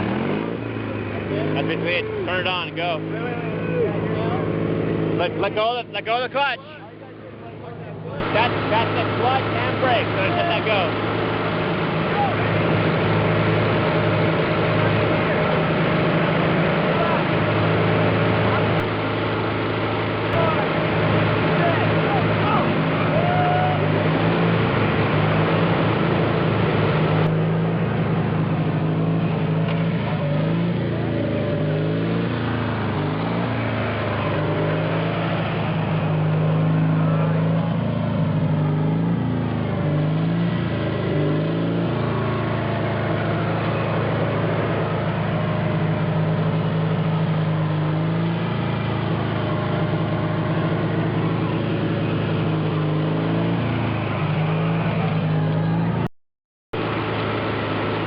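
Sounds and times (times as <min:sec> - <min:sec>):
tractor engine at full throttle: 0:00.0 - 0:56.1, 0:56.7 - 0:58.0.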